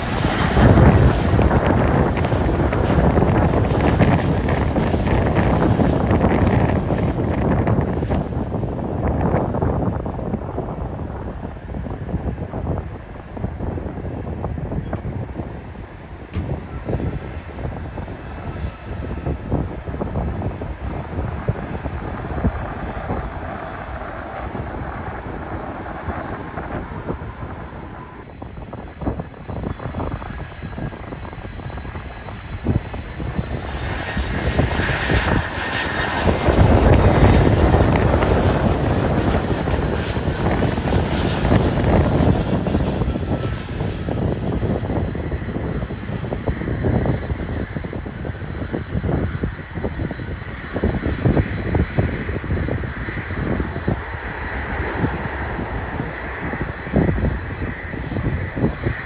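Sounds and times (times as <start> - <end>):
airplane engines passing: 0.0 - 28.4, 29.8 - 59.0
wind buffeting microphone: 0.0 - 59.0.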